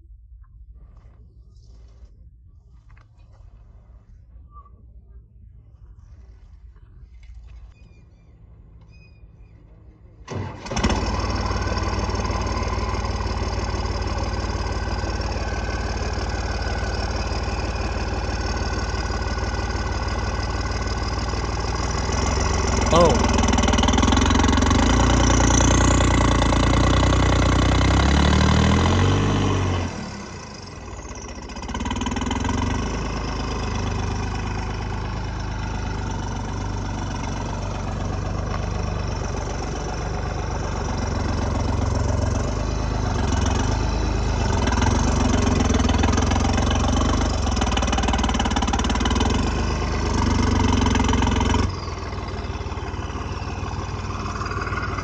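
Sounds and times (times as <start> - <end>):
tractor diesel engine running: 5.4 - 55.0.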